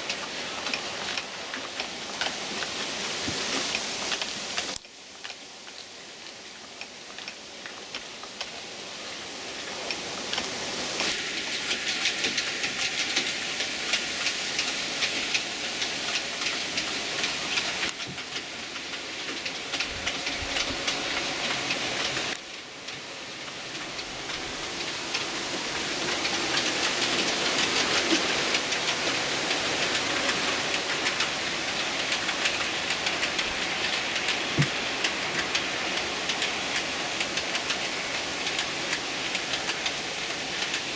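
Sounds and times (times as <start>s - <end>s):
model train wheels rattling on rails: 0.0s - 40.9s
wheels clicking over track: 0.0s - 40.9s.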